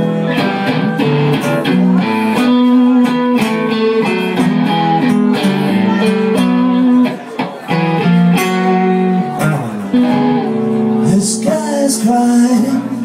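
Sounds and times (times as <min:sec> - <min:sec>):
acoustic guitar accompaniment: 0:00.0 - 0:13.0
electric guitar single notes: 0:00.0 - 0:13.0.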